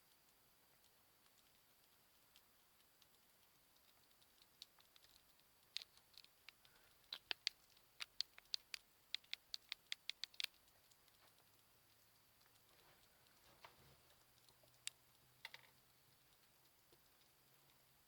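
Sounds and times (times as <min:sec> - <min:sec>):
sugar gliders clicking: 0:00.0 - 0:18.0.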